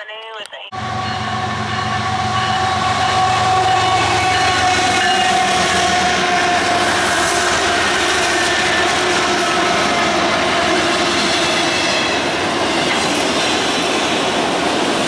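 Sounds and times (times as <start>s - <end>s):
locomotive horn chord: 0.7s - 13.2s
diesel locomotive engine rumbling: 0.7s - 15.0s.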